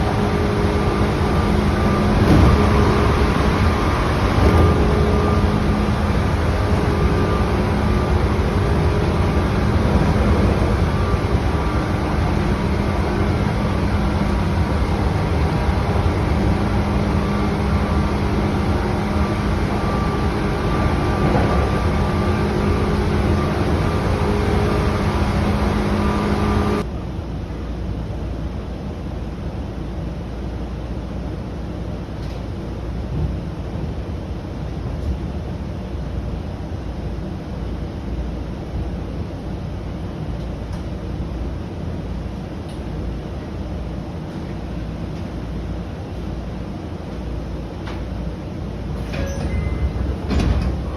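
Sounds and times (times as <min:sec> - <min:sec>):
electric train rumbling: 0:00.0 - 0:50.9.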